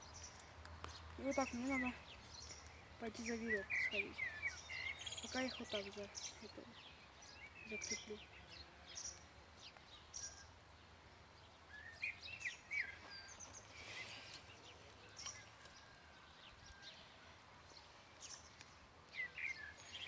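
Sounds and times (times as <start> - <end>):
birds chirping faintly: 0.0 - 20.0.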